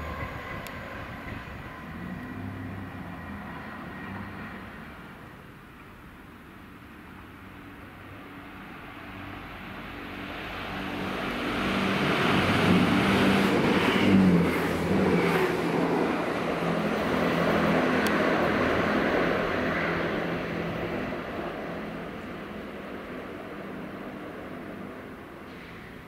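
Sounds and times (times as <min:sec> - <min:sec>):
diesel train engine hum: 0:00.0 - 0:26.0.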